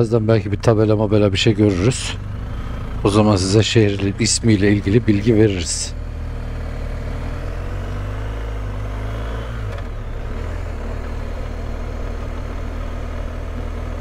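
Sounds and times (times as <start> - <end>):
motorcycle engine: 0.0 - 14.0
road and wind noise: 0.0 - 14.0.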